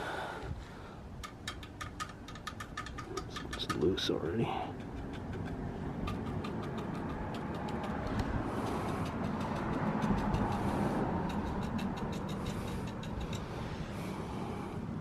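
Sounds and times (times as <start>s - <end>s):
low background rumble: 0.0s - 15.0s
brush ticking and hissing on metal: 1.2s - 14.1s.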